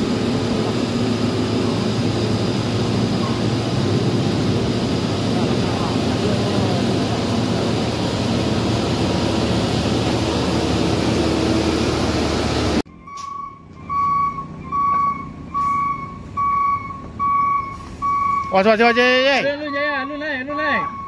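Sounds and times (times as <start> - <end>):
diesel truck engine under load: 0.0 - 21.0
truck reversing alarm beeping: 0.0 - 21.0.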